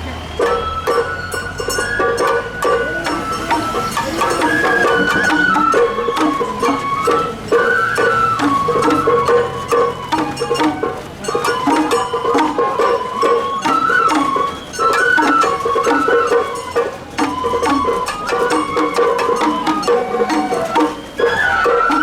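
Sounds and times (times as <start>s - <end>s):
bamboo flute melody: 0.0s - 22.0s
drum strokes: 0.0s - 22.0s.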